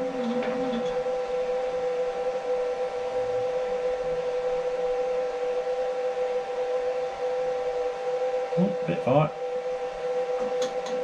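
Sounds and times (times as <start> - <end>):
milling machine whining: 0.0 - 11.0.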